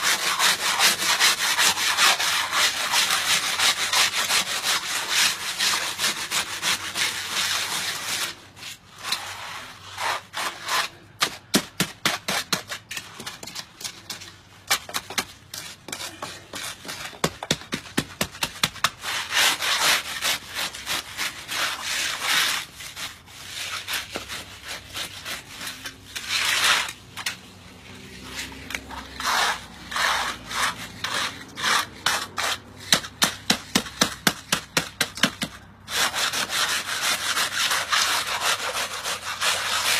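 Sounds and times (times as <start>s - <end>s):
hand float scraping concrete: 0.0s - 39.9s.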